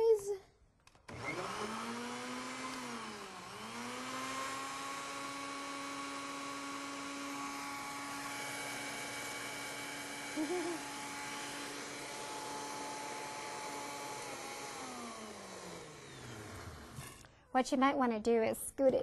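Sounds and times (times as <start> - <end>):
blender motor running: 1.1 - 17.2
wavering blender sound: 1.1 - 17.3.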